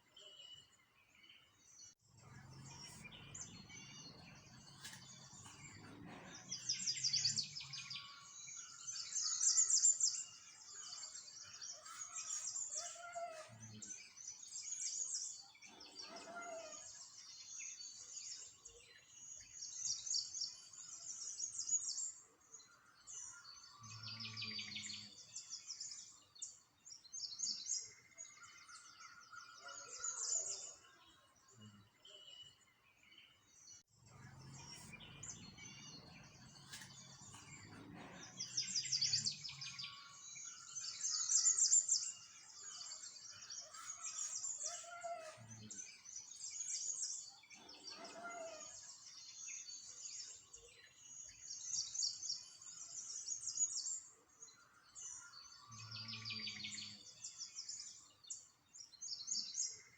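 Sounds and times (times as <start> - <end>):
small birds singing and chirping: 0.0 - 59.9.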